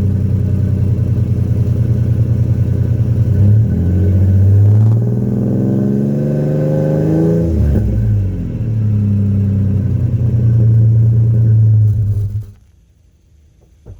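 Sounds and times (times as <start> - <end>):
engine exhaust revving: 0.0 - 12.6.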